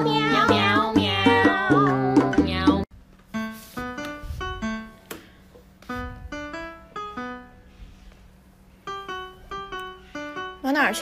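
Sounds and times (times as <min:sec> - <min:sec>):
light melody background music: 0:00.0 - 0:08.0, 0:08.8 - 0:11.0.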